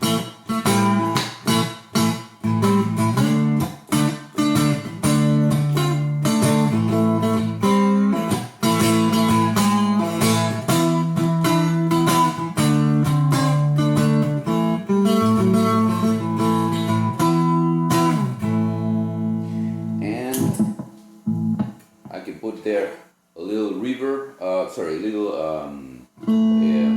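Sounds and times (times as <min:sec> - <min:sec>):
electric cigar box guitar: 0:00.0 - 0:22.1, 0:26.2 - 0:26.9.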